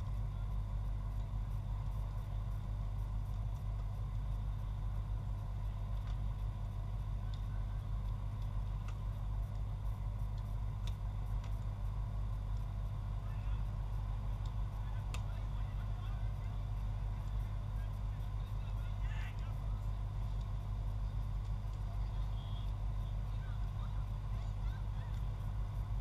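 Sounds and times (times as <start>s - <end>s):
faint high hum: 0.0s - 26.0s
steady low rumble: 0.0s - 26.0s.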